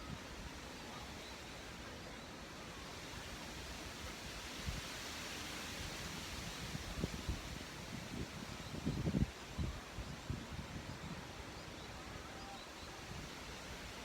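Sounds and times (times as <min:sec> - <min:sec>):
wind rustling leaves: 0:00.0 - 0:14.0.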